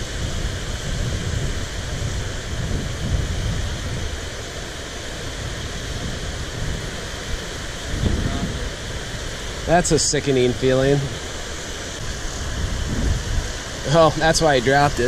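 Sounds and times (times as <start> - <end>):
water rushing over spillway: 0.0 - 15.0
wind buffeting microphone: 0.0 - 15.0.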